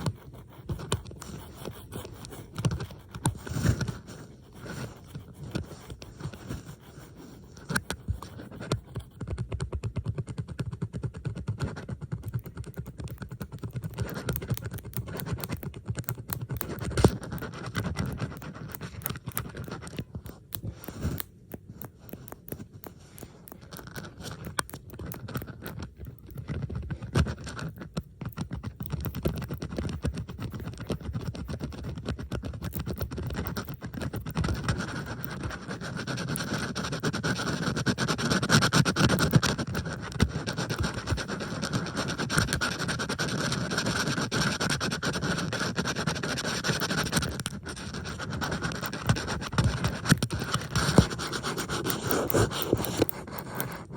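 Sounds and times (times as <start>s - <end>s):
bobby pins scratching and clicking: 0.0s - 53.9s.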